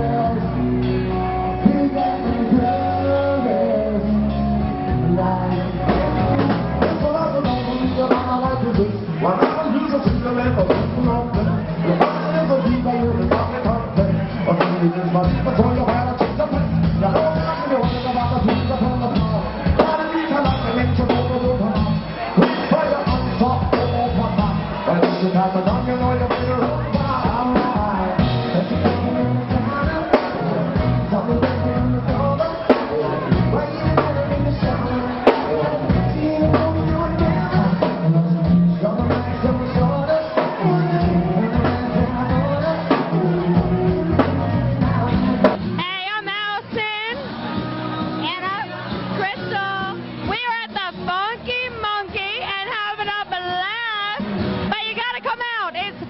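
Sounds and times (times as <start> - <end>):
rock music with singing: 0.0 - 56.0.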